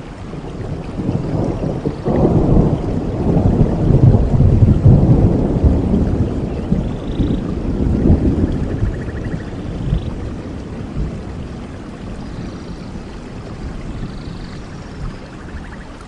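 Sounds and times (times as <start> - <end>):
thunder rumbling: 0.0 - 15.9
steady rain: 0.0 - 16.0.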